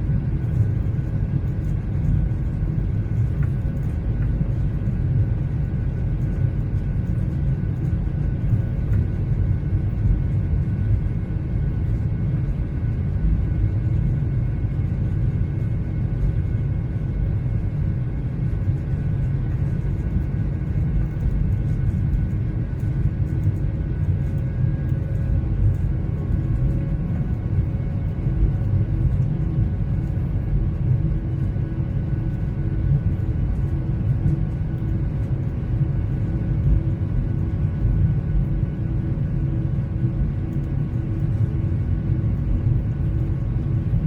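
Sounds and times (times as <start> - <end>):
jet engine rumble in cabin: 0.0 - 44.0.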